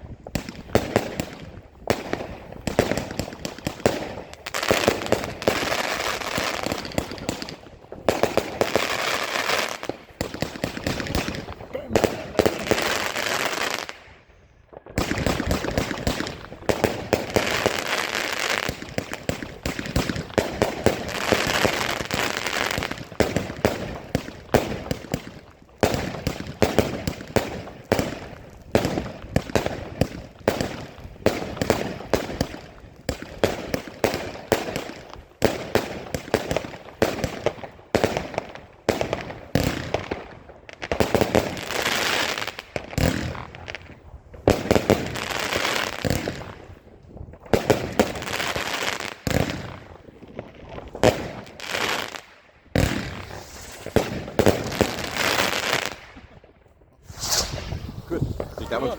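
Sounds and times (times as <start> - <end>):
fireworks bangs and crackles: 0.0 - 58.9.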